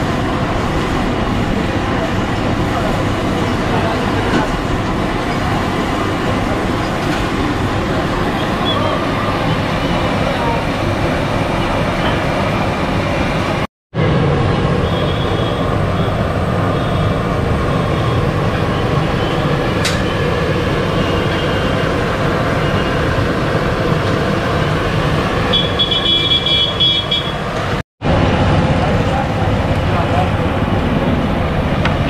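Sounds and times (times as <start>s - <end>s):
gas burner roar: 0.0s - 32.0s.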